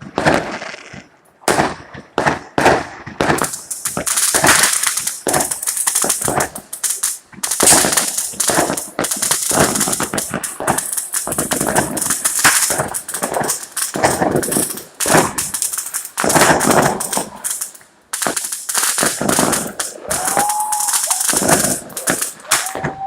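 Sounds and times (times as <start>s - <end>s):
fireworks and firecrackers banging: 0.0s - 23.0s.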